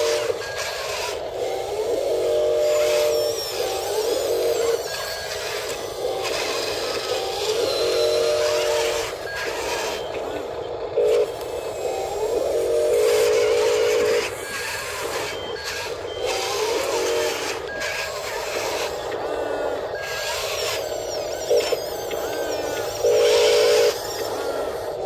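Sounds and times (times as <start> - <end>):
small electric motors whining: 0.0 - 25.0.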